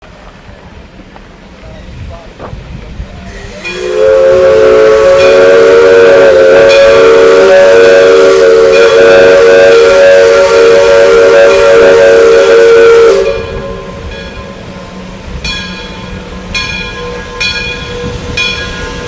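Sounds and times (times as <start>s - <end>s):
steam locomotive whistle: 3.2s - 19.0s.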